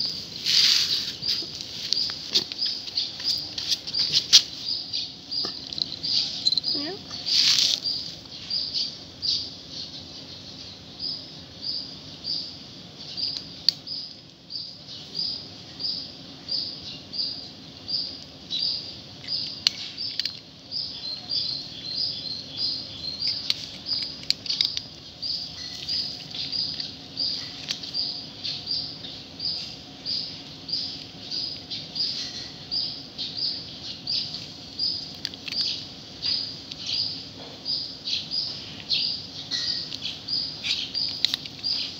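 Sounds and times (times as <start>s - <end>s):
small bird chirping: 0.0s - 41.9s.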